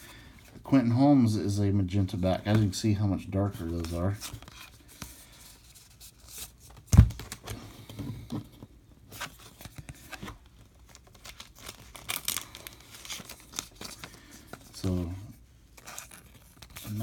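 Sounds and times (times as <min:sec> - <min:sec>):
cards rustling and clicking: 0:02.4 - 0:17.0.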